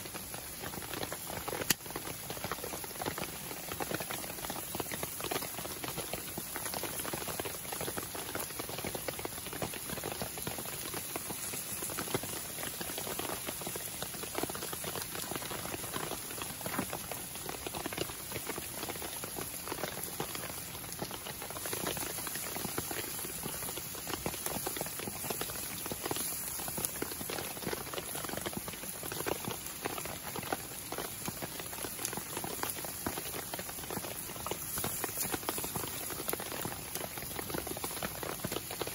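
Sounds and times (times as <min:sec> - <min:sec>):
campfire crackling: 0:00.0 - 0:38.9
vegetables sizzling in a pan: 0:00.0 - 0:38.9.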